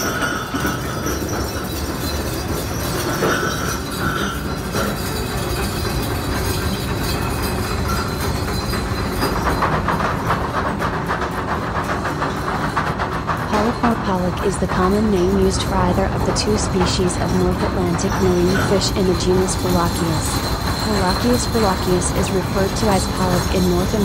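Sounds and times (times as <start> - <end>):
deck machinery rumbling: 0.0 - 24.0
metal chains rattling and clanking: 0.0 - 24.0.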